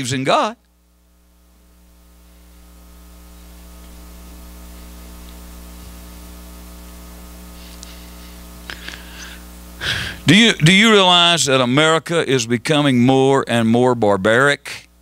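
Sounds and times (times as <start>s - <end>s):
electrical mains hum: 0.0s - 15.0s
steady hiss: 0.3s - 13.4s.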